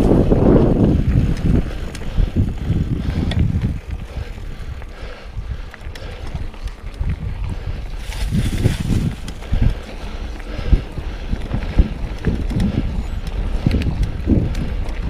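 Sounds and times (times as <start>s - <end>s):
bike clicks and rattles: 0.0s - 15.0s
tyres rumbling on trail: 0.0s - 15.0s
wind buffeting microphone: 0.0s - 15.0s.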